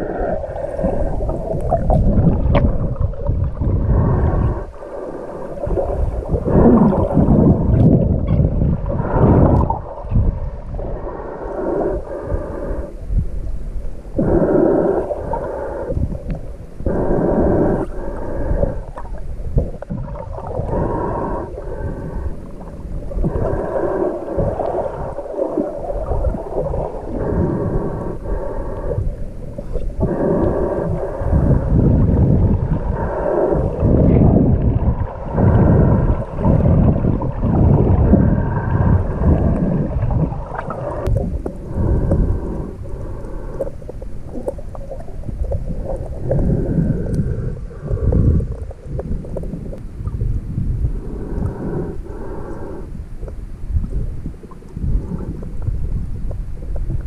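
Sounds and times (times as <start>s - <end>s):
breathing through a snorkel: 0.0s - 7.8s, 8.8s - 57.0s
water sloshing underwater: 0.0s - 57.0s.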